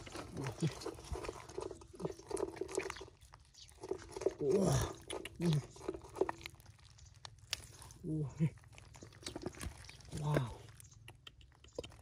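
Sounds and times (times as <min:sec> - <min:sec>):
wet mud squelching: 0:00.0 - 0:12.0.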